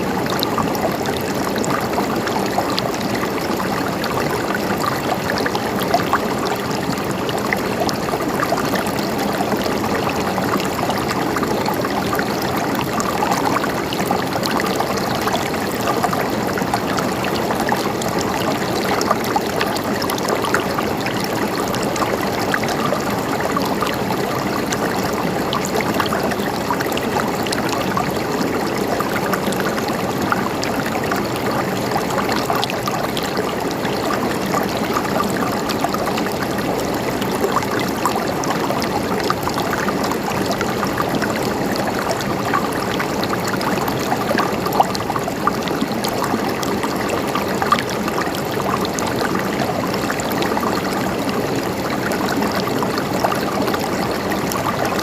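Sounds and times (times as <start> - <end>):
river babbling over stones: 0.0 - 55.0.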